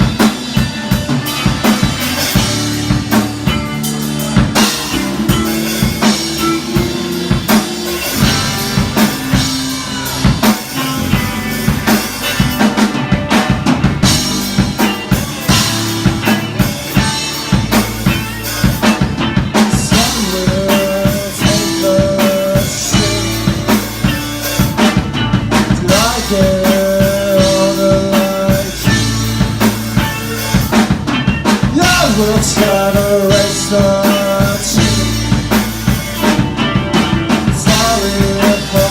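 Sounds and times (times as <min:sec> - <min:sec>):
drum kit beat: 0:00.0 - 0:38.9
live rock band playing: 0:00.0 - 0:38.9.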